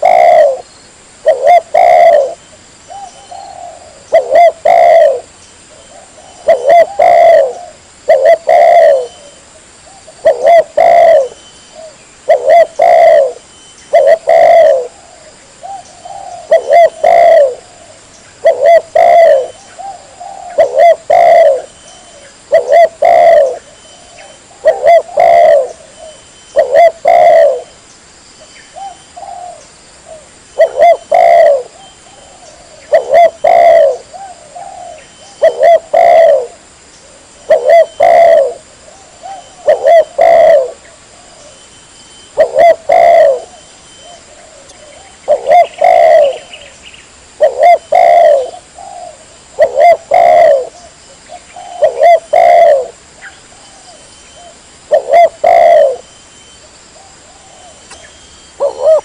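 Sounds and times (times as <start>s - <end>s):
dove cooing: 0.0s - 27.8s, 28.7s - 56.2s, 56.9s - 59.0s.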